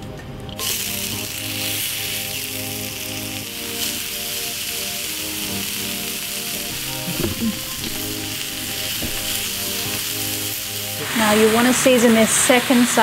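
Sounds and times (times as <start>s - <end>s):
burger patties sizzling on griddle: 0.6s - 13.0s.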